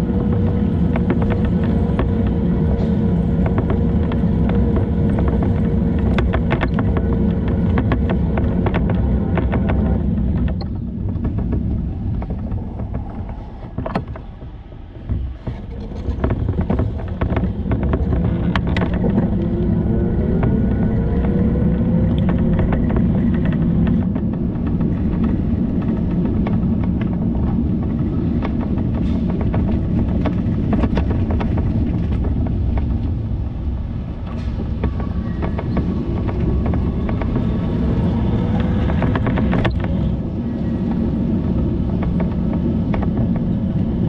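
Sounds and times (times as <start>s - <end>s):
bicycle clicks over bumps: 0.0s - 44.0s
bicycle rumbling and rattling on road: 0.0s - 44.0s.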